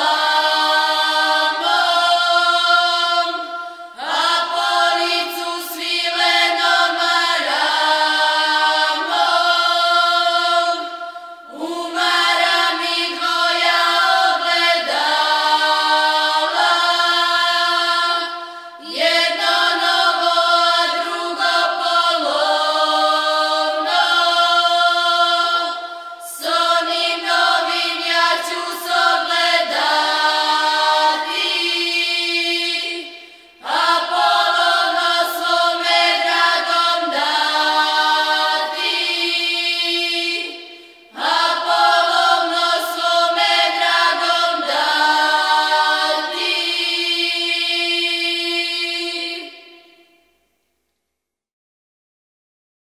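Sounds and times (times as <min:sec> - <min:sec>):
group singing unaccompanied: 0:00.0 - 0:50.3.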